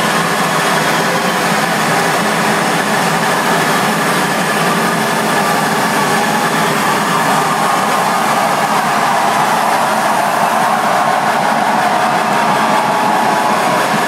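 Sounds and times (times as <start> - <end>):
loud electronic dance music: 0.0 - 14.0.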